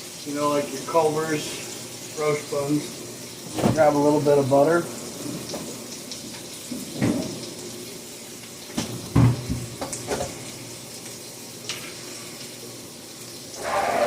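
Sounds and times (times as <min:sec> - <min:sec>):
burgers sizzling on a griddle: 0:00.0 - 0:14.0.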